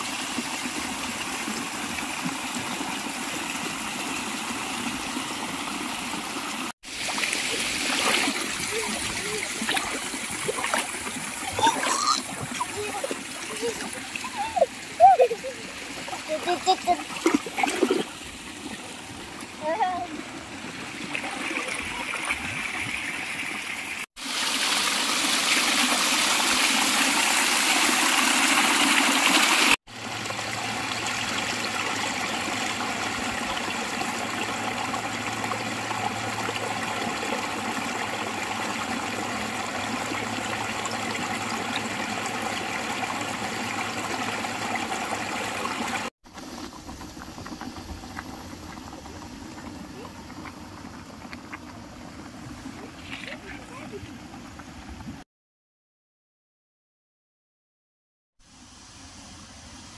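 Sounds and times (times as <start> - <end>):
stream trickling over boulders: 0.0 - 55.2.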